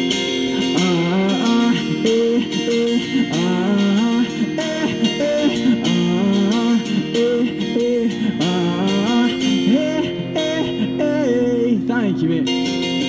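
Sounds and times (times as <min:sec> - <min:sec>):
electric guitar strumming: 0:00.0 - 0:13.0.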